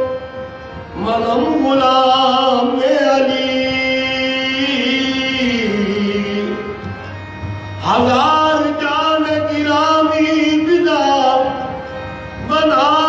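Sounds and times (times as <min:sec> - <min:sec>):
man singing long held notes: 0:00.0 - 0:07.0, 0:07.8 - 0:13.0.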